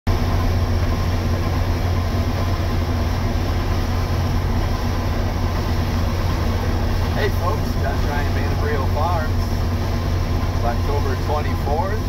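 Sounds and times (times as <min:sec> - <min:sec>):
combine diesel engine drone: 0:00.1 - 0:12.0.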